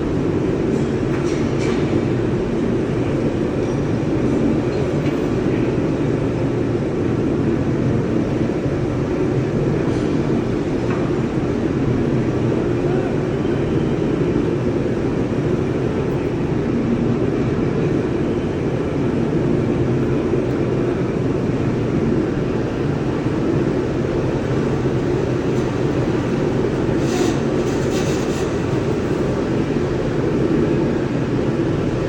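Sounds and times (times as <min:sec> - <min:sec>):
loud low industrial rumble: 0:00.0 - 0:32.0.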